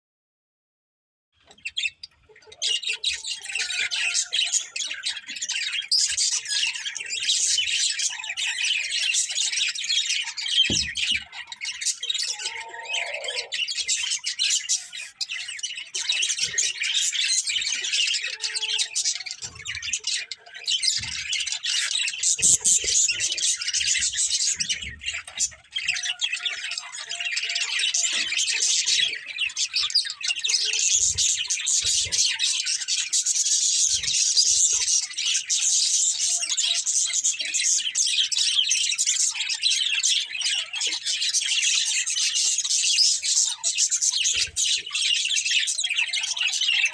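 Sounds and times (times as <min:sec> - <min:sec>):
flock of budgerigars chirping: 0:01.4 - 0:46.9.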